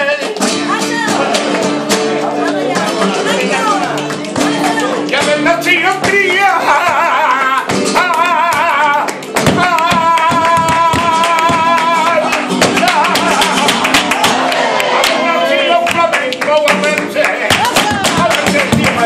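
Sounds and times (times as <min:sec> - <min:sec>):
acoustic guitar: 0:00.0 - 0:19.0
rhythmic hand-clapping: 0:00.0 - 0:19.0.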